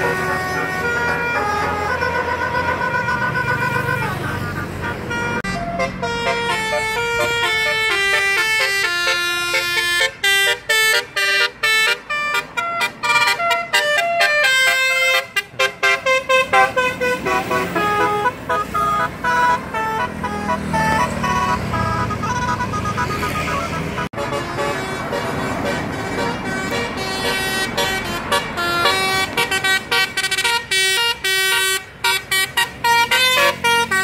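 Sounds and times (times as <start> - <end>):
bus musical air horn: 0.0 - 34.0.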